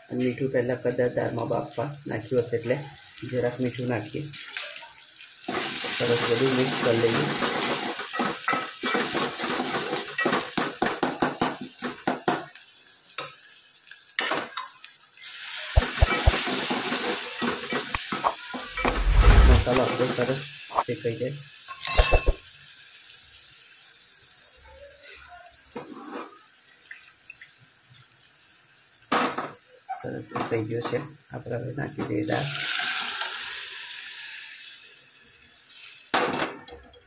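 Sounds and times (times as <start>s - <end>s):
food sizzling in oil: 0.0s - 36.2s.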